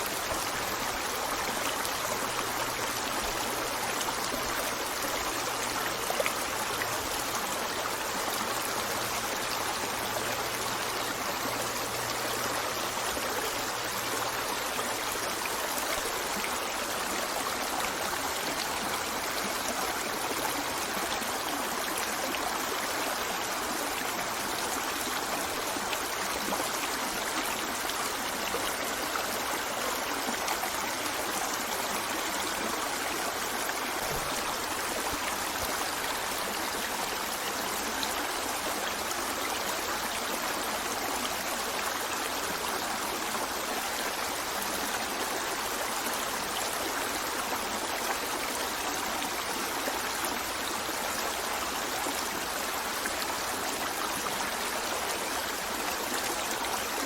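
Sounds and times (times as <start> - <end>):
stream of water running: 0.0 - 57.0.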